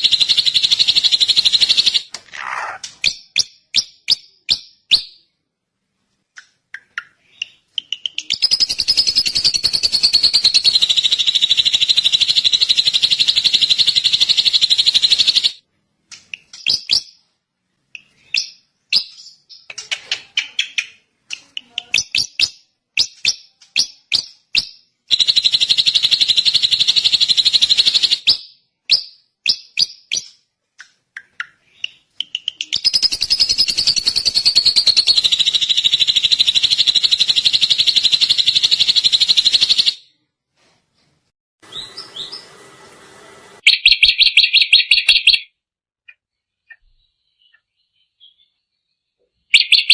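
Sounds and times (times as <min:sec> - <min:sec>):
bird chirping: 0:00.0 - 0:40.2, 0:41.6 - 0:42.6, 0:43.6 - 0:49.9.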